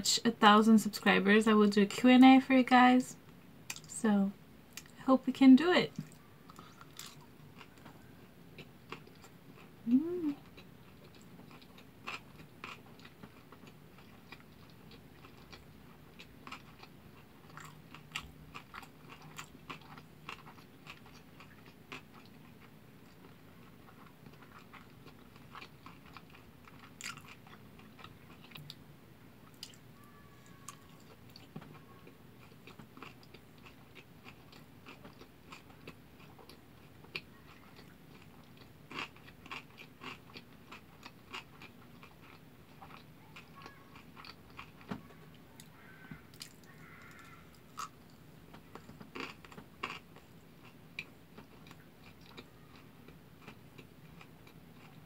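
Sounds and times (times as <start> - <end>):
person chewing food: 5.9 - 28.8, 29.4 - 29.8, 30.4 - 55.0.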